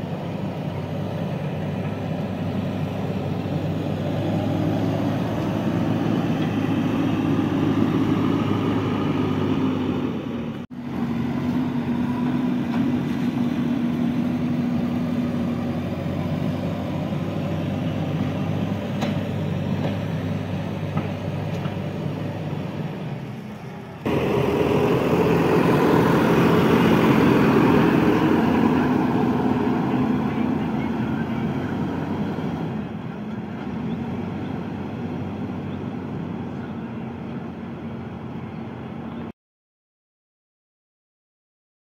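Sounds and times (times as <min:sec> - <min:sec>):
diesel engine running: 0:00.0 - 0:39.3.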